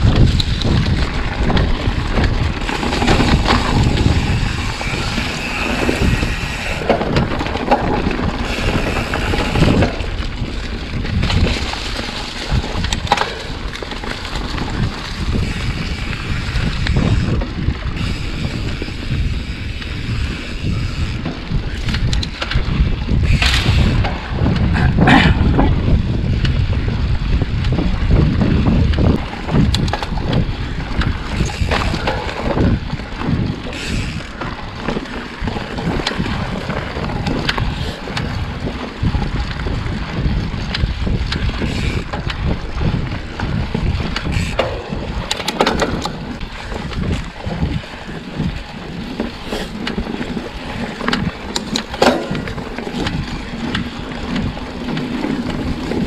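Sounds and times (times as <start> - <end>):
bike clicks and rattles: 0.0 - 56.0
tyres rumbling on dirt trail: 0.0 - 56.0
wind on microphone: 0.0 - 56.0.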